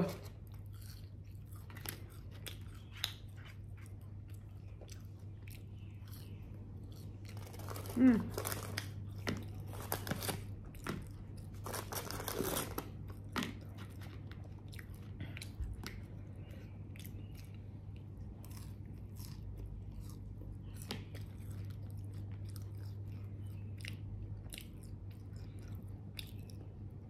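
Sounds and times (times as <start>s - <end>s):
person eating crunchy food: 0.0s - 26.9s.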